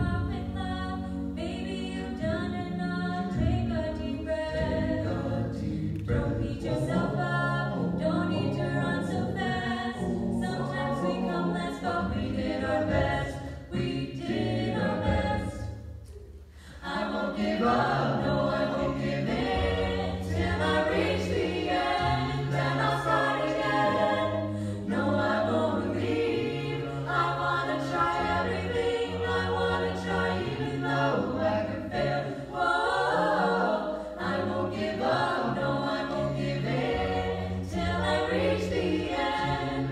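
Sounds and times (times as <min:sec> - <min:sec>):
vocal ensemble singing a cappella: 0:00.0 - 0:39.9.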